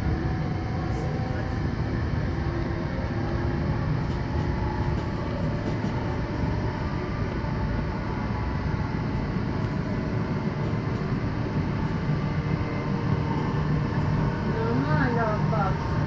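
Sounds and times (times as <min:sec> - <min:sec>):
low hum: 0:00.0 - 0:16.0
train wheels rumbling on rails: 0:00.0 - 0:16.0.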